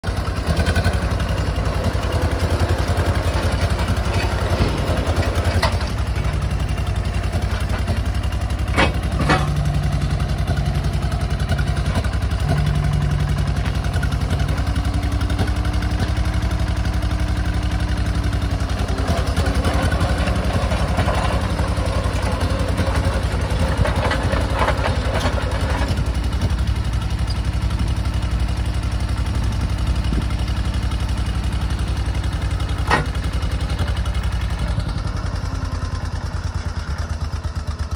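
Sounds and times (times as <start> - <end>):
bulldozer engine running: 0.0 - 37.9.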